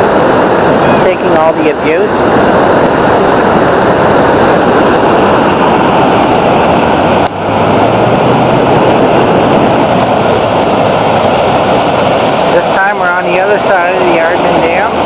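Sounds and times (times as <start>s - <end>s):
floodwater rushing through dam: 0.0s - 15.0s.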